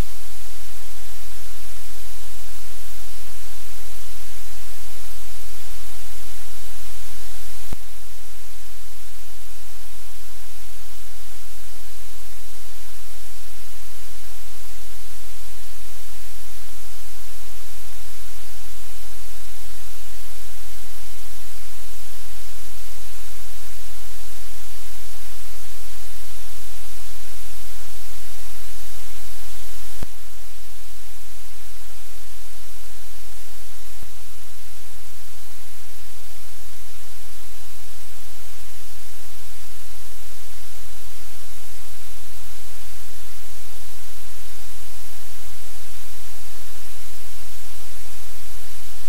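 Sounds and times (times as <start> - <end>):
loud steady hiss: 0.0 - 49.0.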